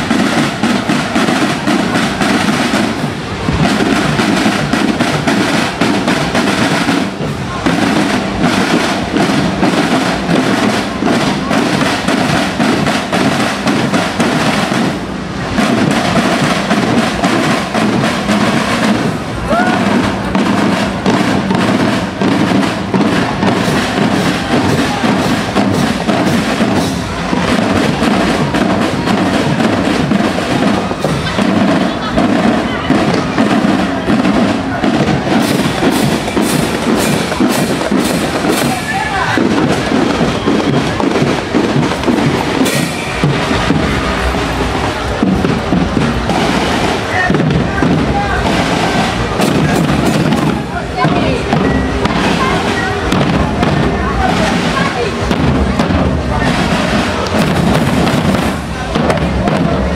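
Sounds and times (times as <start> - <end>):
marching snare and bass drums: 0.0 - 59.9.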